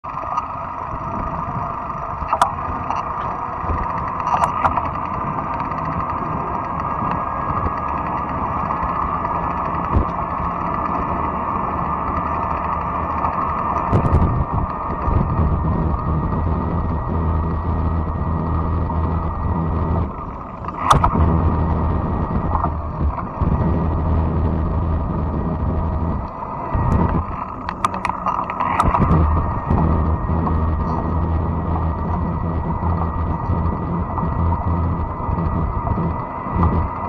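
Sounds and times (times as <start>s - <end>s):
bike tyre and drivetrain noise: 0.0s - 37.0s
wind rumble on microphone: 0.3s - 37.0s
sharp clicks or rattles: 2.2s - 11.0s, 12.1s - 37.0s.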